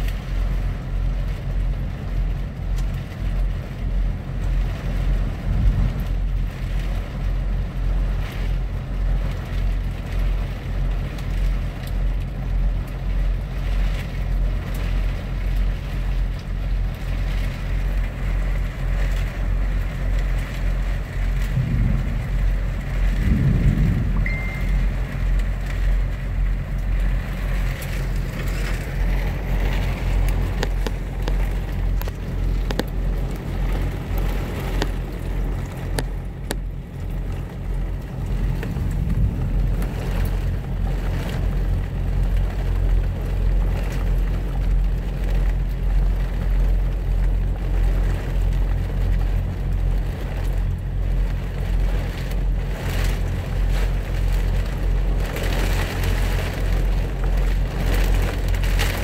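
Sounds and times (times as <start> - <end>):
diesel engine idling: 0.0 - 59.0
heavy rain on truck cab: 0.0 - 59.0
raindrops ticking on glass: 0.1 - 59.0.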